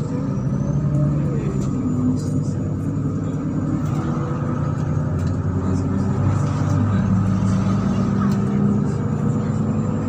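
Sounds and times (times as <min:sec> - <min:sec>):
bus engine rumble: 0:00.0 - 0:10.0
drivetrain whine: 0:00.0 - 0:10.0.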